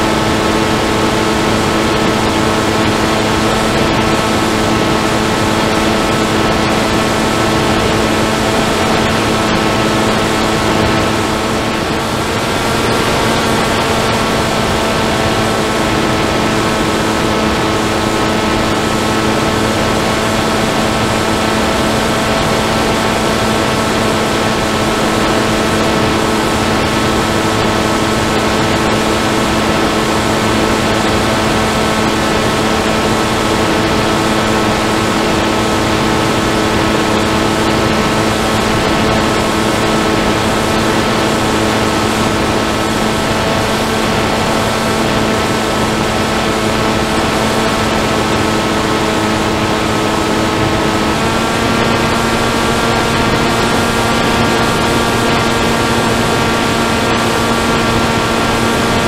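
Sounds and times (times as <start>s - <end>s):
model aircraft motor whine: 0.0s - 59.0s.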